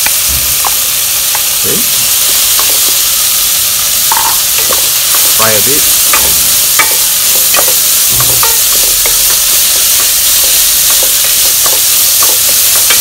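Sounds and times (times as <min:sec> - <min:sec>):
rice sizzling in oil: 0:00.0 - 0:13.0.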